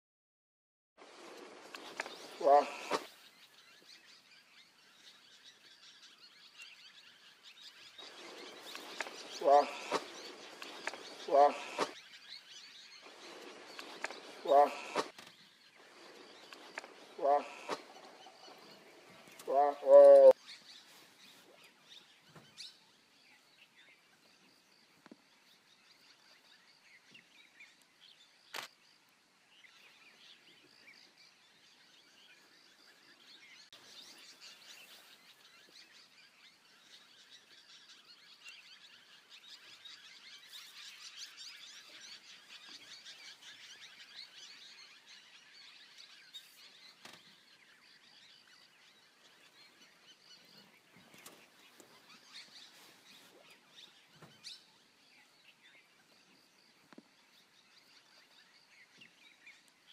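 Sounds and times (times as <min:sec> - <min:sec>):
small birds chirping: 0:01.0 - 0:59.9.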